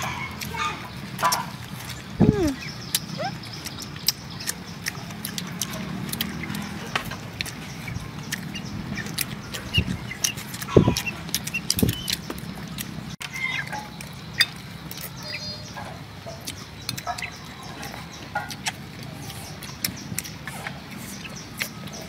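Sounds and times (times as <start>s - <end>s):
chewing and mouth smacking: 0.0s - 22.0s.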